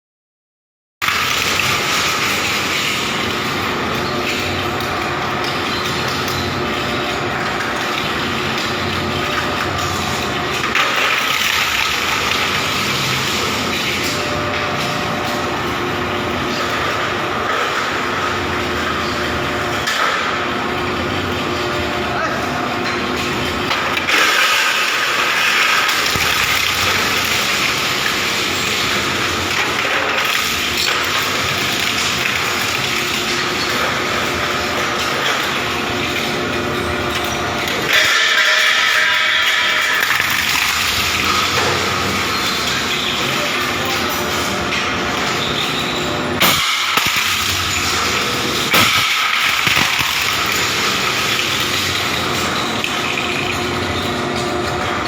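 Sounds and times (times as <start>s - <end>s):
shredder machine running: 1.0s - 55.0s.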